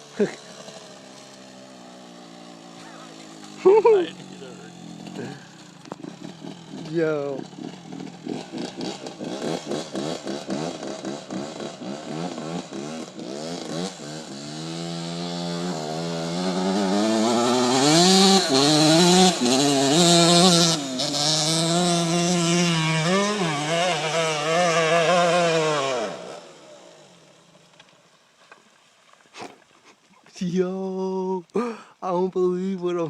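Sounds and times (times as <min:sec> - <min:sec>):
two-stroke motorcycle engine revving: 0:00.0 - 0:27.8.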